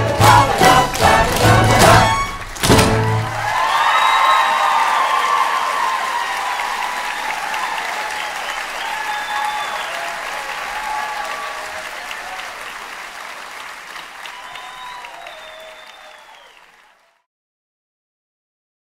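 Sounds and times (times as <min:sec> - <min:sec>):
audience applauding: 0:00.0 - 0:17.3.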